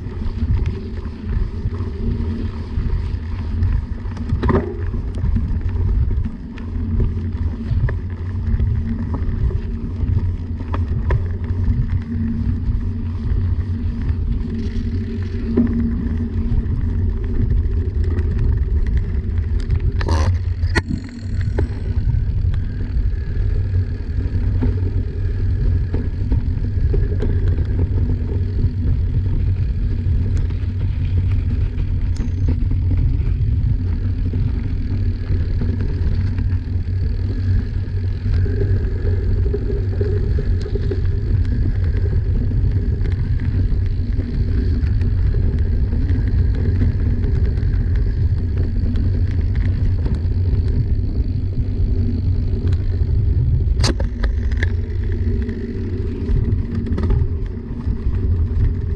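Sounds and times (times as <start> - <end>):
bike clicks and rattles: 0.0 - 58.9
bike tyres rumbling on dirt: 0.0 - 58.9
wind on microphone: 0.0 - 58.9.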